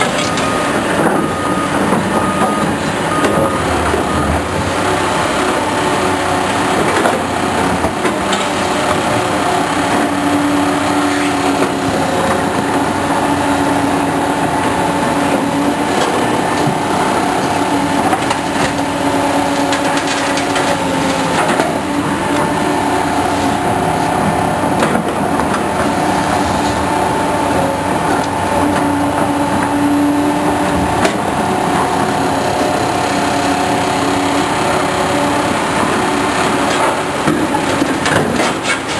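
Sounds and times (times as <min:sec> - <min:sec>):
big machines droning: 0:00.0 - 0:38.9.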